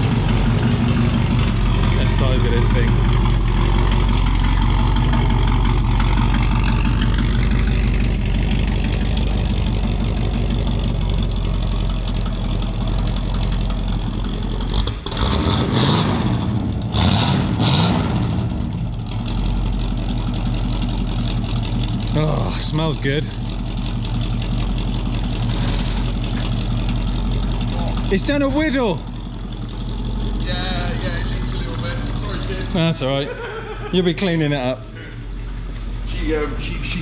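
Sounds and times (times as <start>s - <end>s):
noisy engine bursts: 0.0s - 19.0s, 21.6s - 37.0s
car engine idling: 0.0s - 37.0s.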